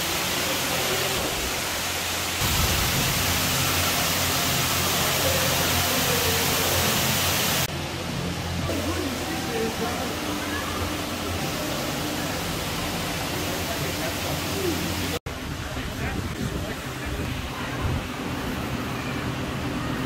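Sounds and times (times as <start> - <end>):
waterfall cascading: 0.0 - 17.5.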